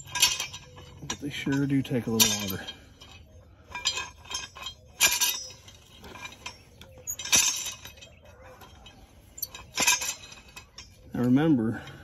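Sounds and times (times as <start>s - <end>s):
metal crank handle clinking: 0.0s - 12.0s.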